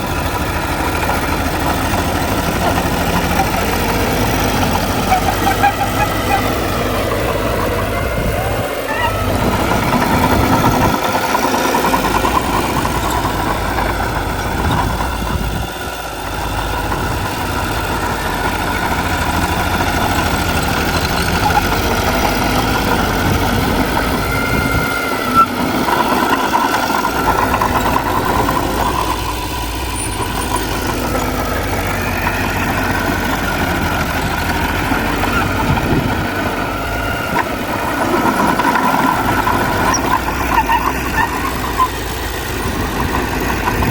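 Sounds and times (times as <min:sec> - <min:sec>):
heavy machinery diesel engines: 0:00.0 - 0:43.9.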